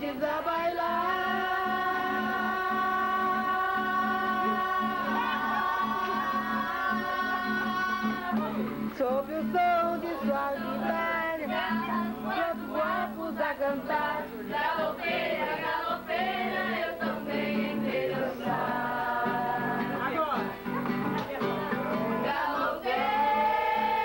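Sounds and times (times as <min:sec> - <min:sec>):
acoustic guitar: 0:00.0 - 0:24.0
people singing together: 0:00.0 - 0:24.0.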